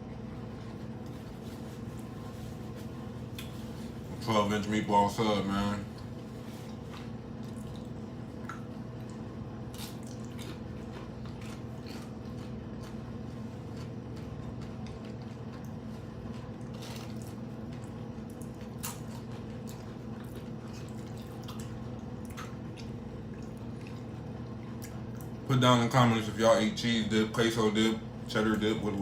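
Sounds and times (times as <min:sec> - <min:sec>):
chewing crunchy food: 0:00.0 - 0:04.6, 0:05.6 - 0:25.5
steady low hum: 0:00.0 - 0:29.0.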